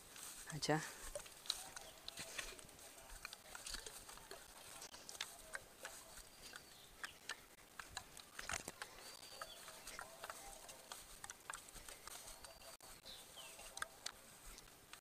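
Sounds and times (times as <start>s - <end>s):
footsteps on muddy path: 0.0s - 15.0s.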